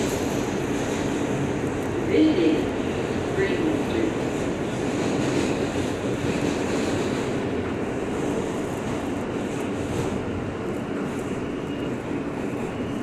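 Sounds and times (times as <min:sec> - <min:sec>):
subway train rumbling on track: 0:00.0 - 0:13.0.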